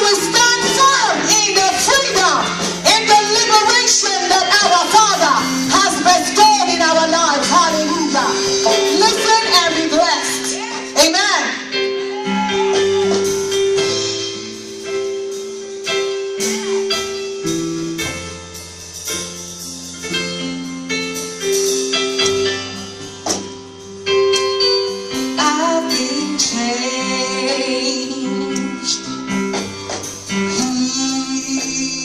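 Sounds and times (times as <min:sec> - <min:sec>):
keyboard chords: 0:00.0 - 0:32.0.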